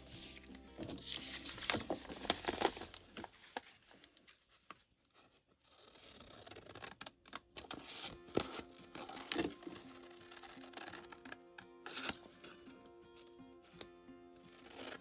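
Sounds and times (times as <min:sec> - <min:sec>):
paper rustling and crinkling: 0:00.0 - 0:12.6, 0:14.5 - 0:15.0.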